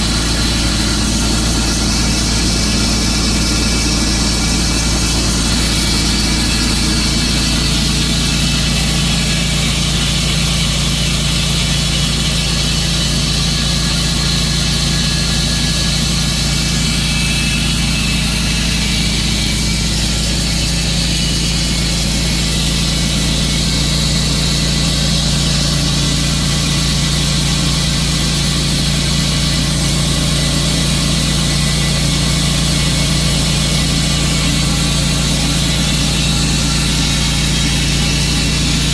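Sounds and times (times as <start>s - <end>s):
sawmill engine droning: 0.0s - 38.9s.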